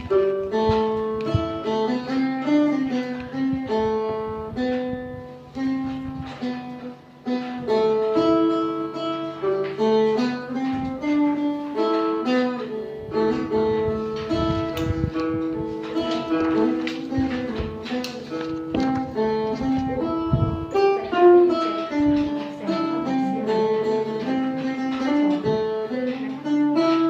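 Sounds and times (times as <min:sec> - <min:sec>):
plucked lute melody: 0:00.0 - 0:27.0.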